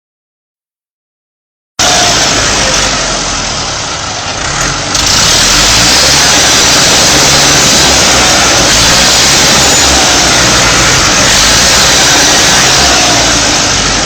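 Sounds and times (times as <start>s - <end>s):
tractor engine running: 1.8s - 14.0s.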